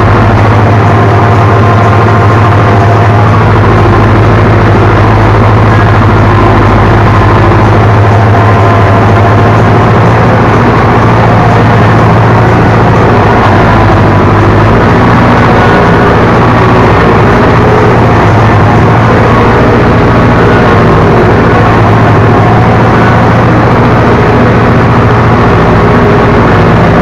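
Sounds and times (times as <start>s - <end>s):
tractor diesel engine droning: 0.0s - 27.0s.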